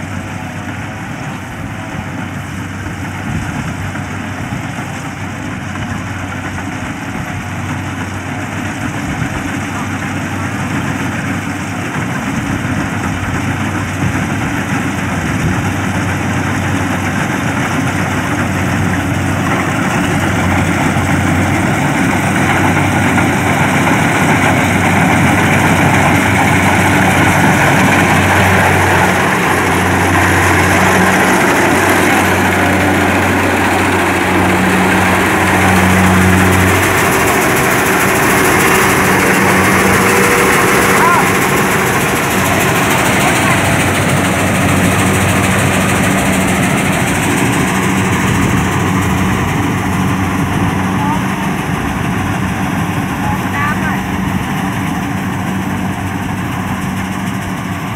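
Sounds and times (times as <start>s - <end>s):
combine harvester running: 0.0s - 57.9s.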